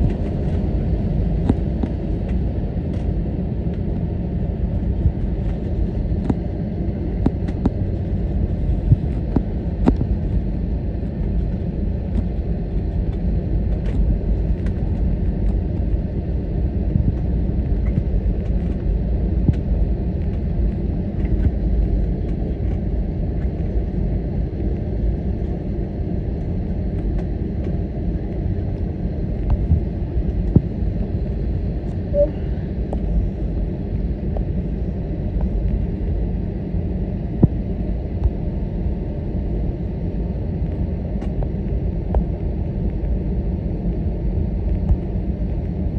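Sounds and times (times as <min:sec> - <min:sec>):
aircraft cabin rumble: 0:00.0 - 0:45.9.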